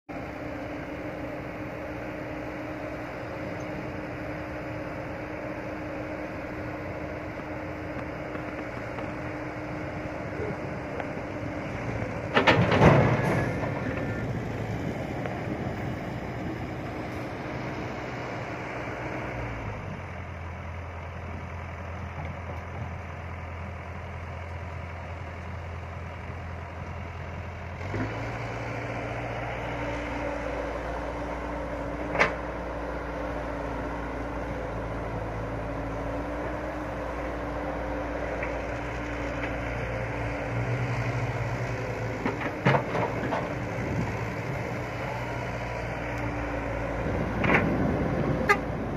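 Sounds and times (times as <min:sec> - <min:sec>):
excavator diesel engine running: 0:00.1 - 0:48.9.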